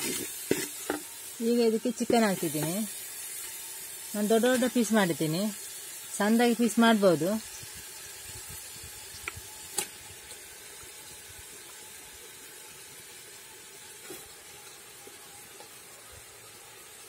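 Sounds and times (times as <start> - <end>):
masala sizzling in hot oil: 0.0 - 17.0.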